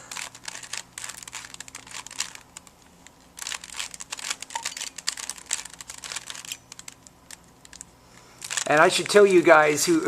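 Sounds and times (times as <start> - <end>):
puzzle cube clicking: 0.1 - 9.2.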